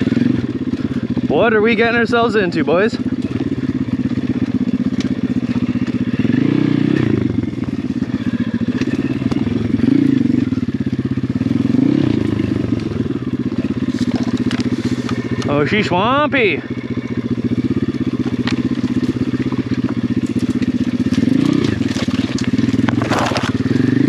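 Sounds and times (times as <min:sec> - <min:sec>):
motorbike engine at low revs: 0:00.0 - 0:24.0.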